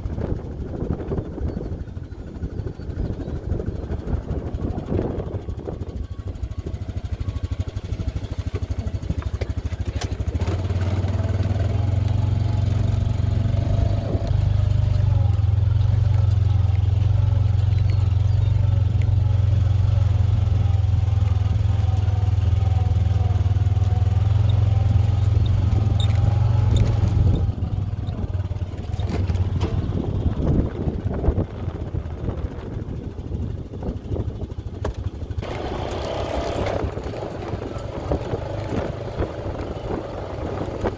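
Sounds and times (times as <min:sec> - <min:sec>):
utility vehicle engine running: 0:00.0 - 0:40.9.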